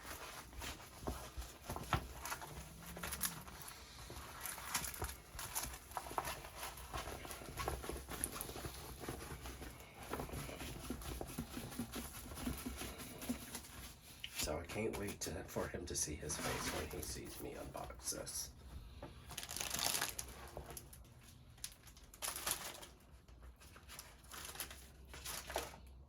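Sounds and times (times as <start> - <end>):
packaging rustling: 0.0 - 14.5, 19.3 - 26.0.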